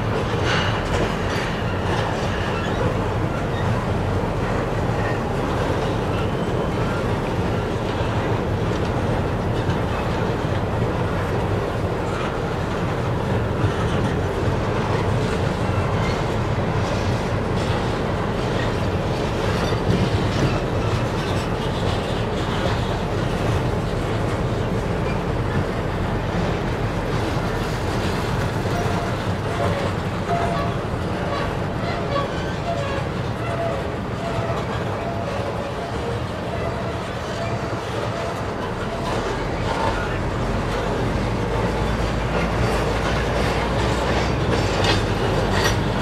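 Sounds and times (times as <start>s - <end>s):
rail joint clicks: 0.0s - 46.0s
train wheels rumbling on rail: 0.0s - 46.0s.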